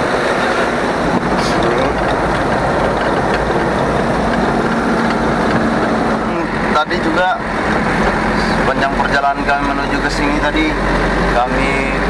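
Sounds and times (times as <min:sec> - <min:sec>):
road rumble: 0:00.0 - 0:12.0
vehicle engine running: 0:00.0 - 0:12.0.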